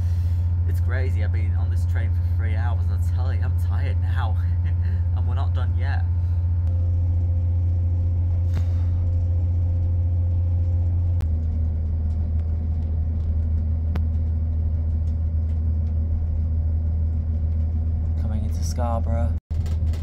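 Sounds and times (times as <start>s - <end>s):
train interior rumble and hum: 0.0s - 20.0s.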